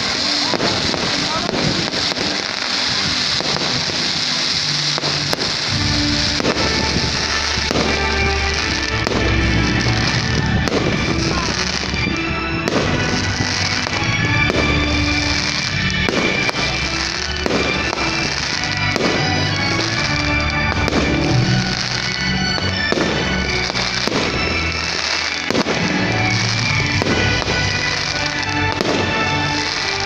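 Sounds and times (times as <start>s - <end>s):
fireworks bangs and crackles: 0.0s - 30.0s
loud show music: 0.0s - 30.0s.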